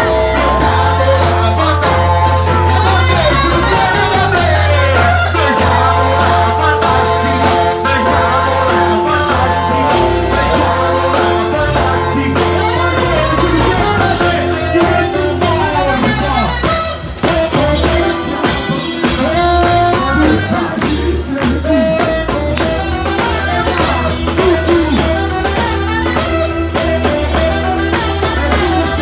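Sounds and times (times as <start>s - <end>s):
live band playing upbeat song: 0.0s - 29.0s
saxophone playing: 0.0s - 29.0s
steady drum beat: 0.0s - 29.0s.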